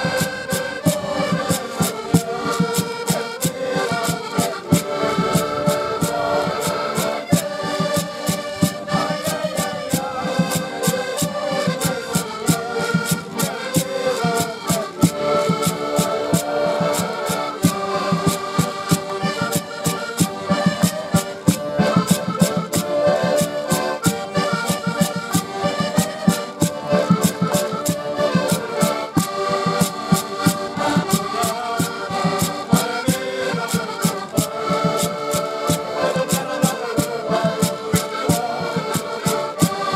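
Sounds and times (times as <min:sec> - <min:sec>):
button accordions playing: 0:00.0 - 0:39.9
percussion beat: 0:00.0 - 0:39.9.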